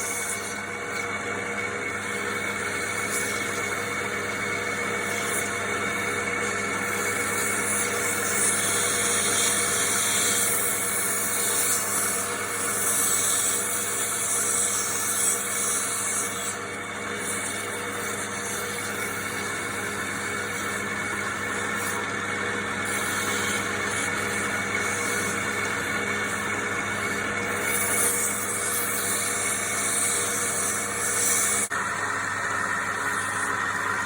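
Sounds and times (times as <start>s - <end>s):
cutting tool shaving wood: 0.0s - 31.8s
wood lathe motor running: 0.0s - 34.0s.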